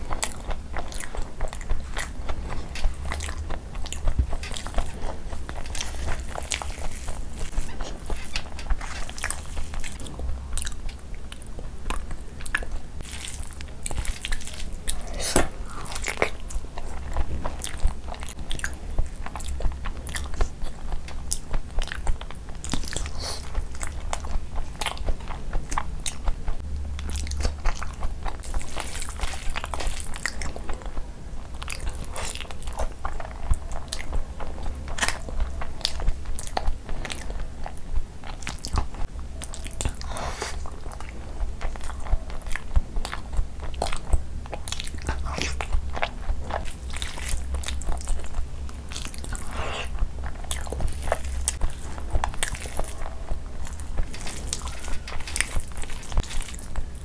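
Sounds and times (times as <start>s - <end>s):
chewing food: 0.0s - 57.0s.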